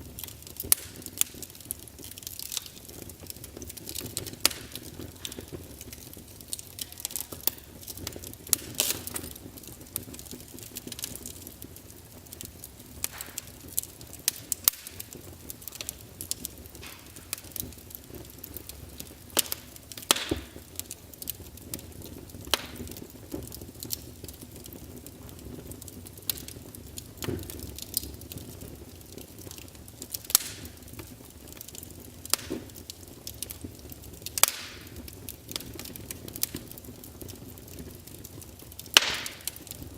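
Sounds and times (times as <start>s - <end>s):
logs crackling and popping: 0.0s - 39.9s
low rush of flame: 0.0s - 39.9s.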